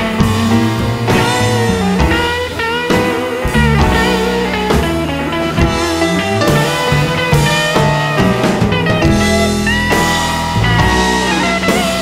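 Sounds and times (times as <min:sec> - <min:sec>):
guitar rock music: 0:00.0 - 0:12.0.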